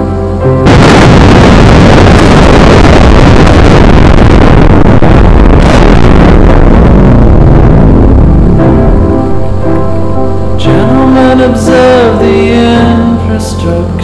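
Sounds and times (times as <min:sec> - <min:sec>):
wind rushing over microphone: 0:00.2 - 0:12.2.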